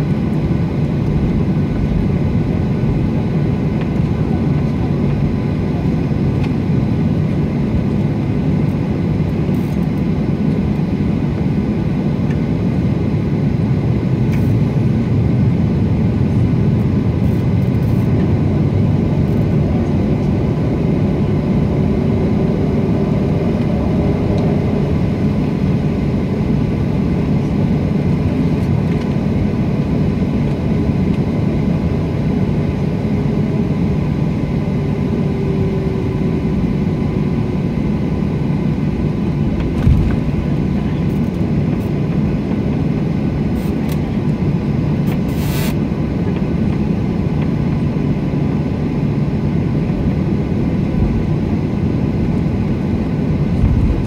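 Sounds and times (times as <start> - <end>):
jet engines low rumble: 0.0 - 54.0.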